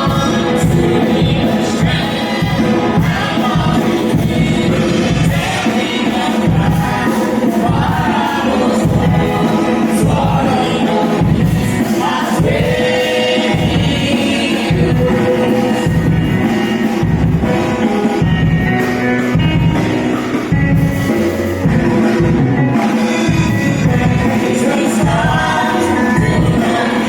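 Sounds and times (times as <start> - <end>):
choir singing: 0.0 - 18.2, 21.6 - 27.0
band playing steady beat: 0.0 - 27.0.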